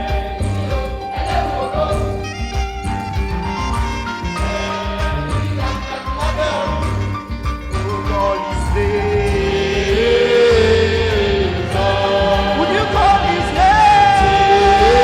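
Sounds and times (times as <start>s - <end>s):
band with steady low beat: 0.0s - 15.0s
choir singing in harmony: 0.0s - 15.0s.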